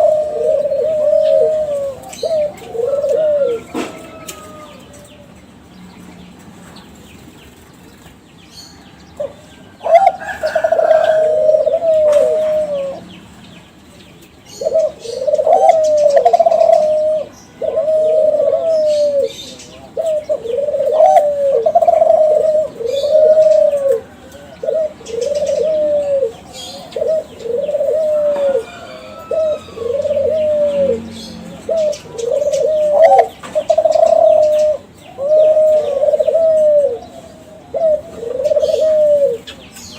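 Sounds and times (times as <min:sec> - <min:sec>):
dove cooing: 0:00.0 - 0:05.4, 0:09.2 - 0:13.3, 0:14.4 - 0:39.9.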